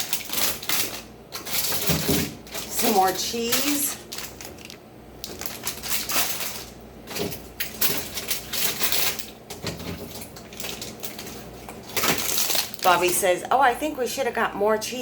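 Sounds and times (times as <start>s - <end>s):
plastic packages crinkling: 0.0s - 13.3s.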